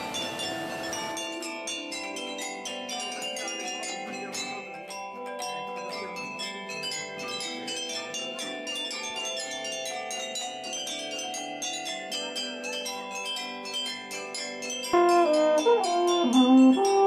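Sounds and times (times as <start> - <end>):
mallets striking tuned metal tubes: 0.0 - 17.0.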